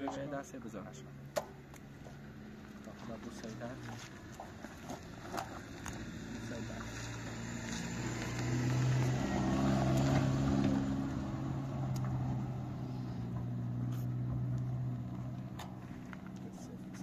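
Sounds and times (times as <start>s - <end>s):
engine running: 0.8s - 17.0s.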